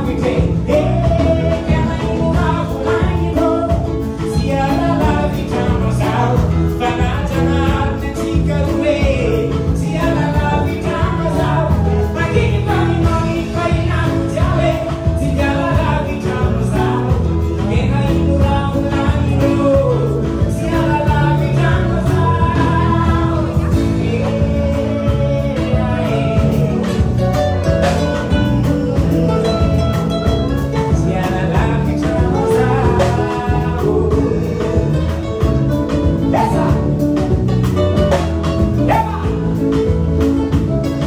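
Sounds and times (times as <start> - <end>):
drum kit: 0.0 - 41.0
electric bass guitar: 0.0 - 41.0
person singing: 0.0 - 41.0.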